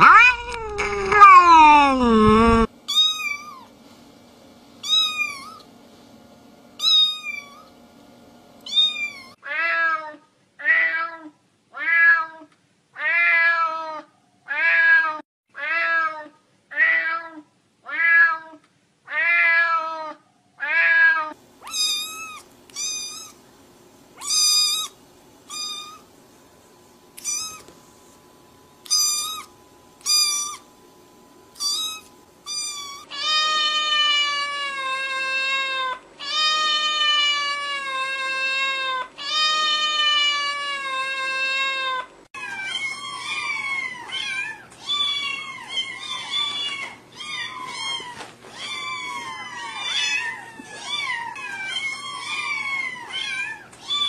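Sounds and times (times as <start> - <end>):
cats meowing: 0.0 - 3.7, 4.8 - 5.6, 8.7 - 12.4, 13.0 - 23.4, 24.2 - 26.0, 27.2 - 27.7, 28.8 - 30.6, 31.6 - 54.0.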